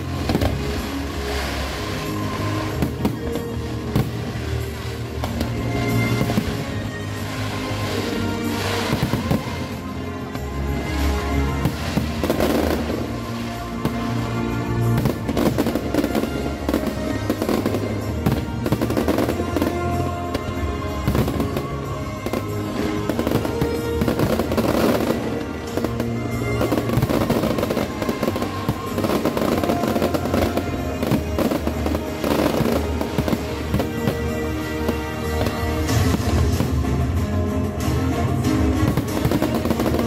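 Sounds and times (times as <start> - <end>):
fireworks bangs and crackles: 0.0 - 40.0
music over loudspeakers: 0.0 - 40.0.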